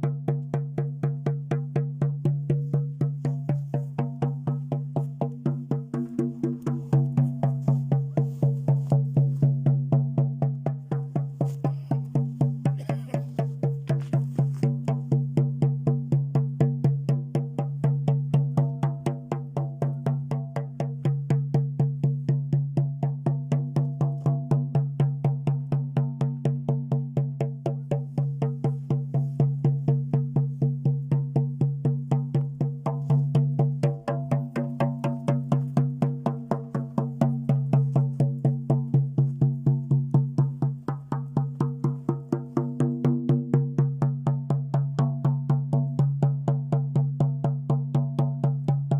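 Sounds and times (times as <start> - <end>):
frame drum beating: 0.0 - 48.9.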